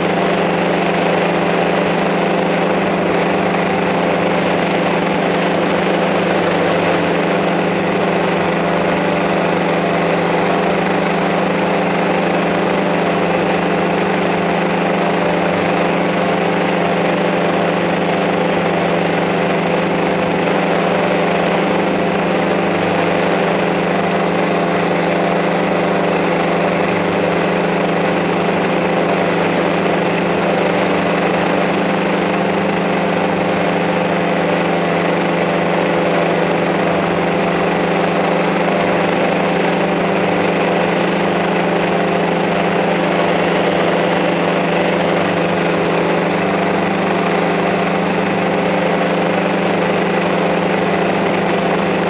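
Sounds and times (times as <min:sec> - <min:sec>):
drone propellers buzzing: 0:00.0 - 0:52.0.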